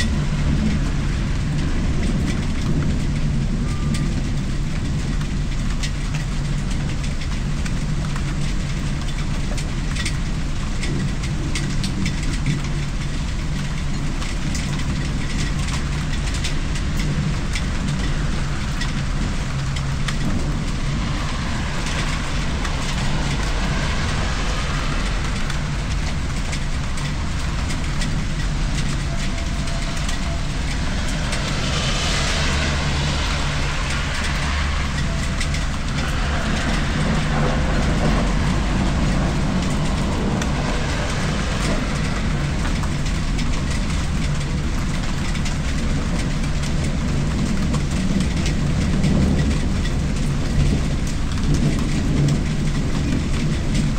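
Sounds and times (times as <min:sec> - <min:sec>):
low rumble: 0:00.0 - 0:53.9
steady rain: 0:00.0 - 0:53.9.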